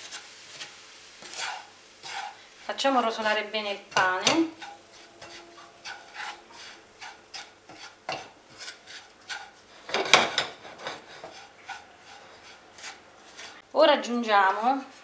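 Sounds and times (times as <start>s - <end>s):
wooden spoon scraping frying pan: 0.0s - 15.0s.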